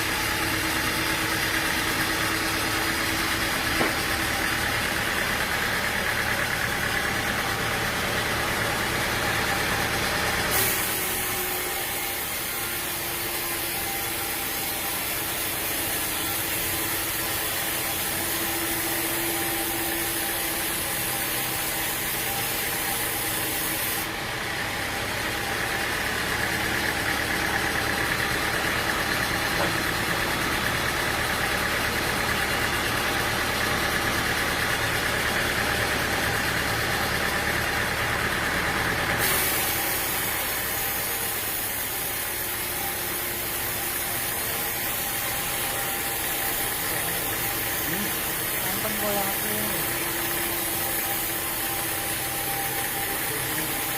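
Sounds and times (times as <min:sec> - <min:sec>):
hissing machinery with hum: 0:00.0 - 0:06.6, 0:07.2 - 0:53.9
sawmill machinery droning: 0:00.0 - 0:53.9.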